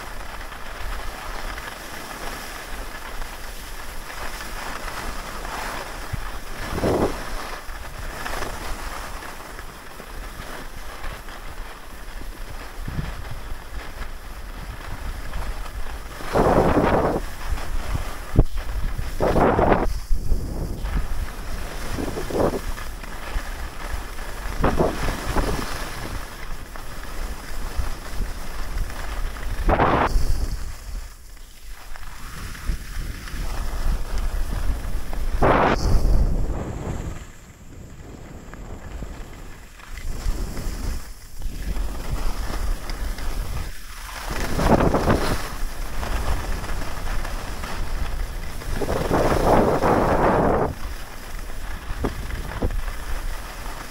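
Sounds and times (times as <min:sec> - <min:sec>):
skis hissing on snow: 0:00.0 - 0:53.9
wind buffeting microphone: 0:04.8 - 0:08.9, 0:12.0 - 0:31.2, 0:32.0 - 0:53.9.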